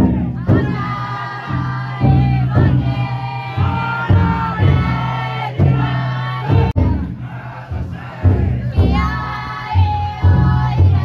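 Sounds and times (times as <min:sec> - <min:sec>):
crowd singing a chant: 0:00.0 - 0:11.0
taiko drum beats: 0:00.0 - 0:11.0.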